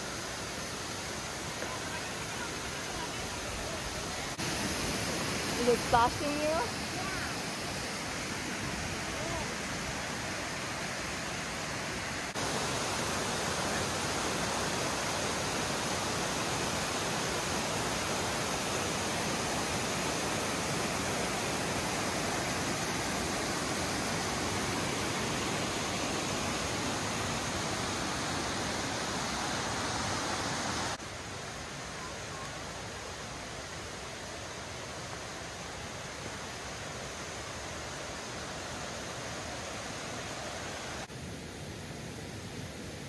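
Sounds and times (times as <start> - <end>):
creek rushing over boulders: 0.0 - 43.0.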